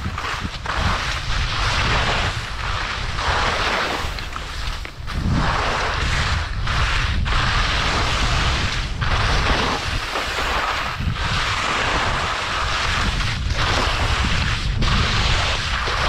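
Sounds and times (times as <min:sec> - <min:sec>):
skis scraping and hissing on snow: 0:00.0 - 0:16.0
wind rumbling on microphone: 0:00.0 - 0:16.0.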